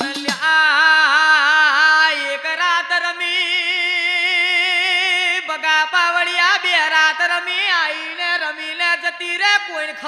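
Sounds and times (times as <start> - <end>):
person singing with vibrato: 0.0 - 10.0.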